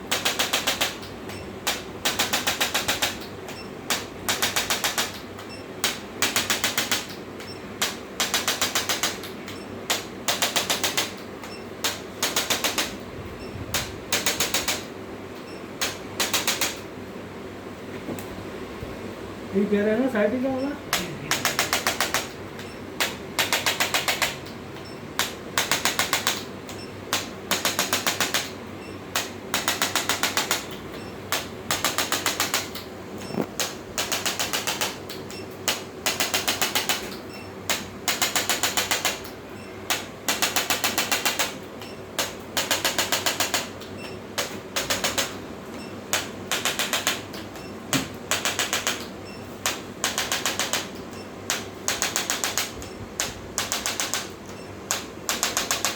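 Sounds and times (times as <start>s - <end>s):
rapid mechanical tapping: 0.0s - 13.0s, 13.7s - 14.9s, 15.8s - 16.8s, 20.9s - 55.9s.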